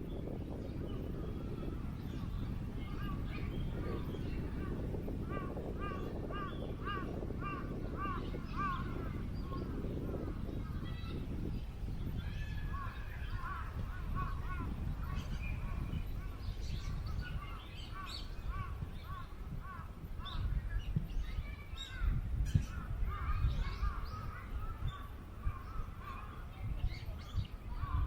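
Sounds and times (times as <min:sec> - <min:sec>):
wind rumbling on microphone: 0:00.0 - 0:28.0
birds calling: 0:00.1 - 0:28.0.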